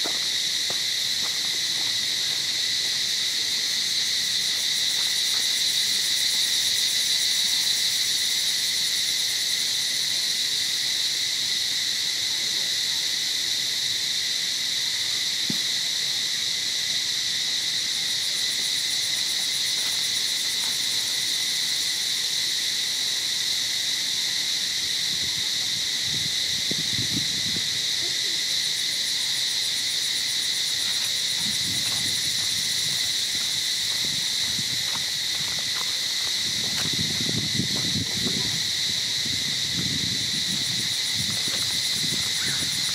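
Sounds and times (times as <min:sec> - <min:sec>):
insects chorus droning: 0:00.0 - 0:42.9.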